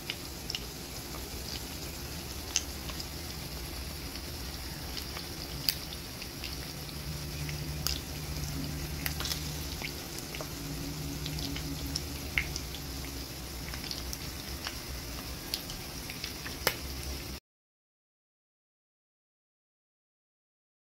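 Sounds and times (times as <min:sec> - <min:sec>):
fish sizzling in hot oil: 0:00.0 - 0:17.4
low steady hum: 0:00.0 - 0:17.4.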